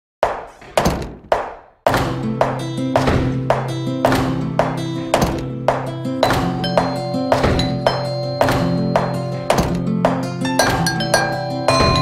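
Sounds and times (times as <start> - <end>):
sharp percussive hit: 0.2 - 11.0
guitar music over a beat: 2.2 - 12.0.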